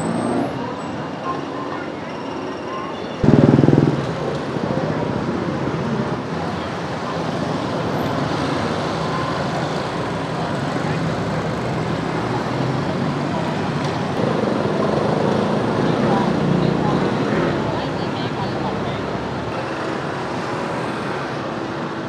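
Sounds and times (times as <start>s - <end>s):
motorbike and car engines: 3.2s - 22.0s.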